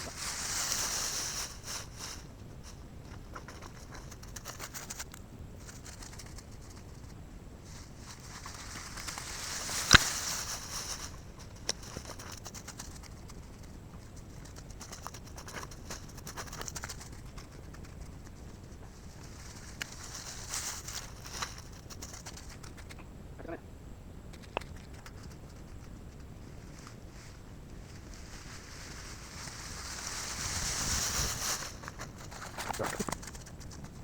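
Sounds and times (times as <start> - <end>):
small ticks and rustles: 0.0 - 34.0.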